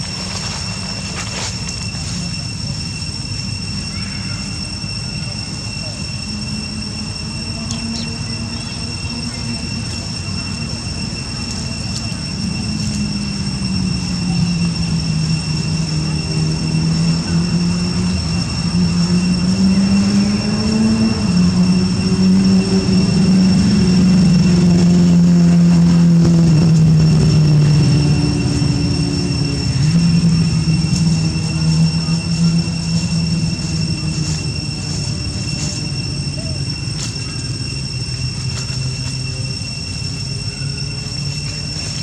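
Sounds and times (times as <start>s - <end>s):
high-pitched whine: 0.0s - 42.0s
motor humming: 0.0s - 42.0s.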